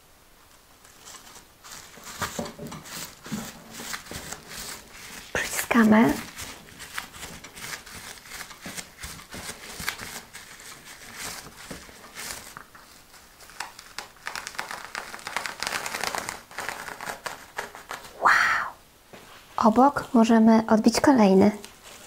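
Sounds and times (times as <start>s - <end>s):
bubble wrap crinkling and crackling: 0.4s - 18.2s, 19.3s - 22.0s.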